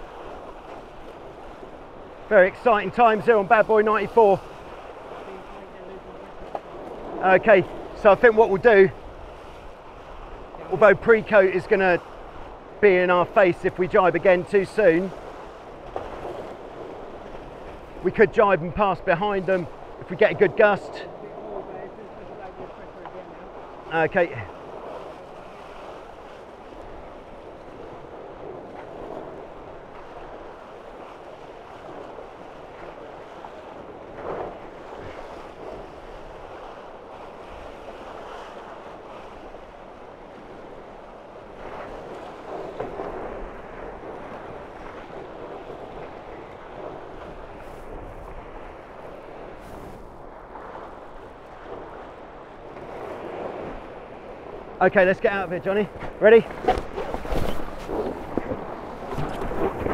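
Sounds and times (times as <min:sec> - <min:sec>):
wind on microphone: 0:00.0 - 0:54.8, 0:55.7 - 0:59.9
water rushing past hulls: 0:00.0 - 0:59.9.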